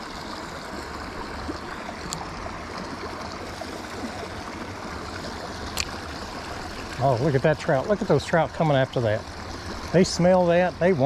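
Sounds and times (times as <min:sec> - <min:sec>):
creek running over rocks: 0:00.0 - 0:11.0.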